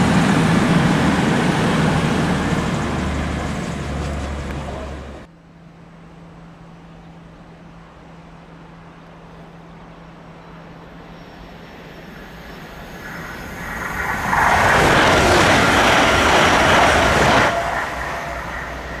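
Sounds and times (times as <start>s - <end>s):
train approaching hum: 0.0s - 19.0s.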